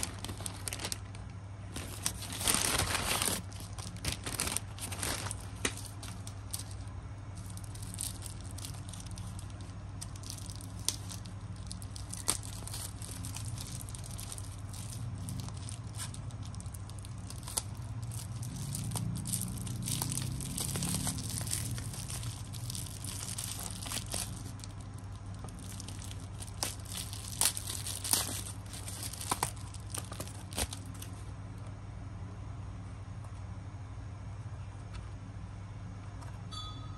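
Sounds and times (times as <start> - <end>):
bubble wrap crinkling and tearing: 0.0 - 31.4
steady low hum: 0.0 - 36.9.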